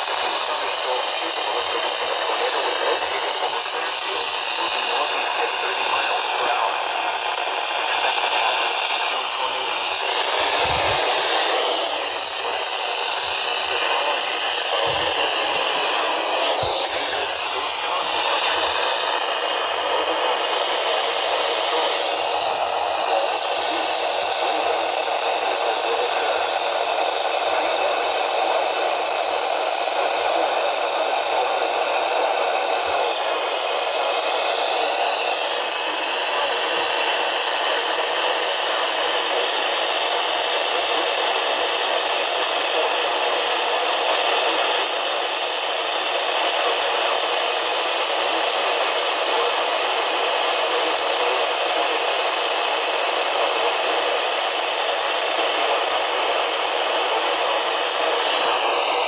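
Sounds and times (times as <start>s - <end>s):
radio static hissing: 0.0s - 59.0s.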